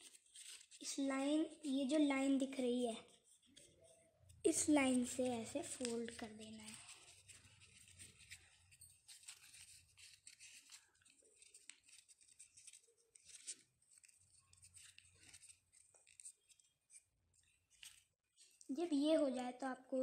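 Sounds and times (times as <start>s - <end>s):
paper crinkling being folded: 0.0s - 18.8s.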